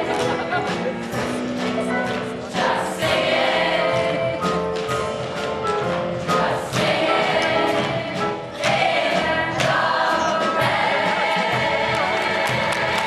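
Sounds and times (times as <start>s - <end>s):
instrumental accompaniment: 0.0s - 13.0s.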